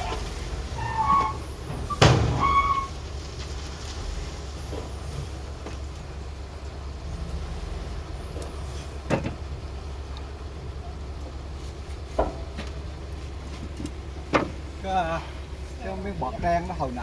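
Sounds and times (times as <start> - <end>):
machinery engine rumbling: 0.0 - 17.0.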